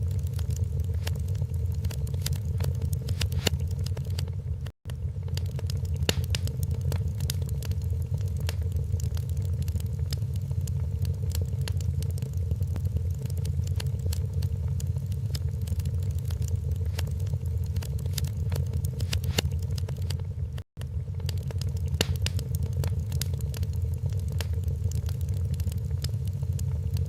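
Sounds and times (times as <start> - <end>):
fire crackling and popping: 0.0 - 27.0
low rumble: 0.0 - 27.0.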